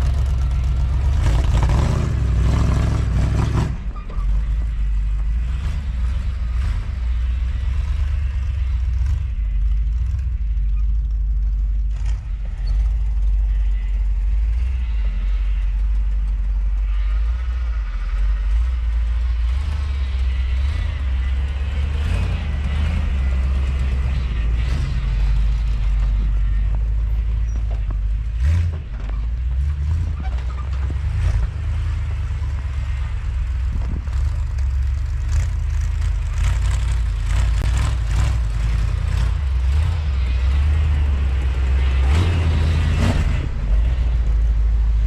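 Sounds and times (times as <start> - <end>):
truck engine droning: 0.0 - 45.0.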